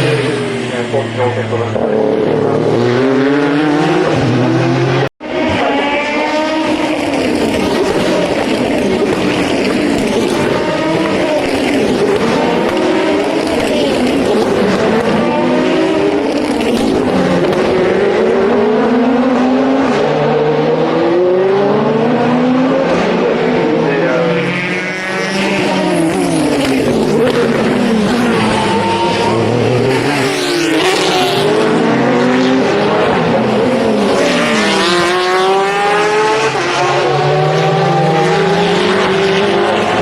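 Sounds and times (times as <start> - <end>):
race cars passing: 0.0 - 40.0.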